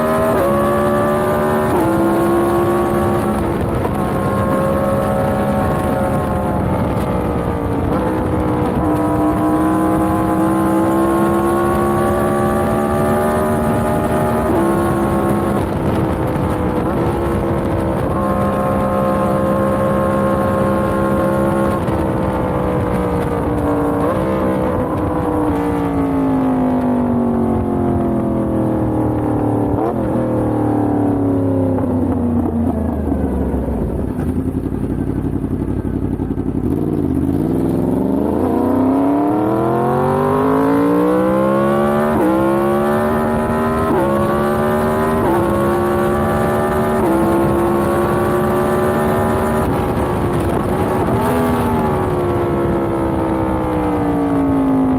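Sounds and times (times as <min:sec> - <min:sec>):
motorcycle engine shifting gears: 0:00.0 - 0:54.9.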